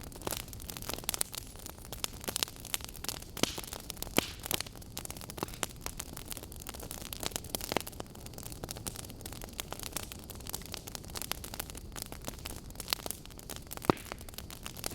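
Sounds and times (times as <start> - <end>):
log fire crackling: 0.0 - 14.9.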